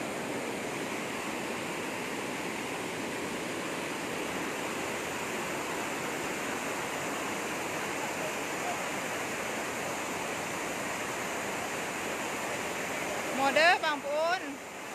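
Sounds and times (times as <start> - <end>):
fast-flowing water rushing: 0.0 - 14.9.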